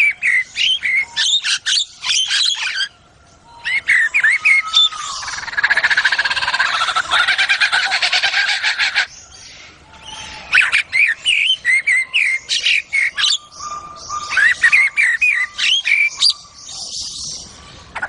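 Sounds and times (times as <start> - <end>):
bird singing whistled notes: 0.0 - 8.3, 8.9 - 18.0.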